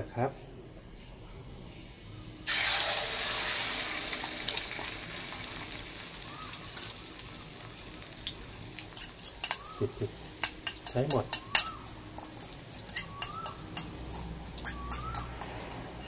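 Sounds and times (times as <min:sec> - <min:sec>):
egg sizzling in hot fat: 0:02.5 - 0:16.0.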